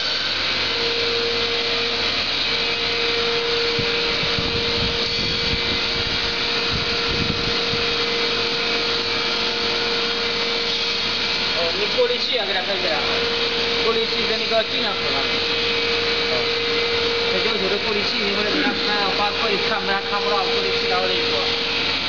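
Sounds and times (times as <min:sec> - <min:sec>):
loud mechanical hiss: 0:00.0 - 0:22.0
machinery hum: 0:00.0 - 0:22.0.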